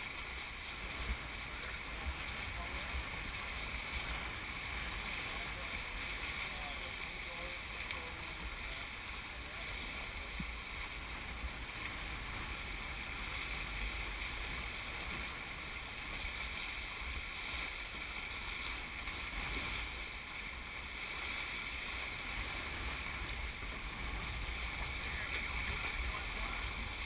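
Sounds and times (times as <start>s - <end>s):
water rushing along boat hulls: 0.0s - 27.0s
wind rumble on microphone: 0.0s - 27.0s.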